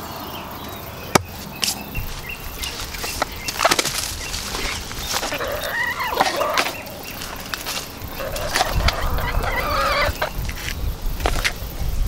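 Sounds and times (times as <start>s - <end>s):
dried hides crackling and knocking: 1.1s - 11.7s.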